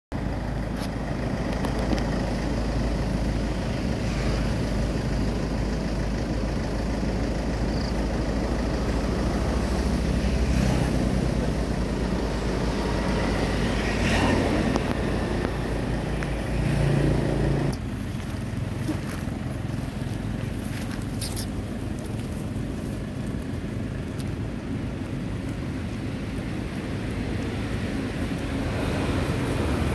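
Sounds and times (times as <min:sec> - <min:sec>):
motorbike engines rumbling: 0:00.2 - 0:29.9.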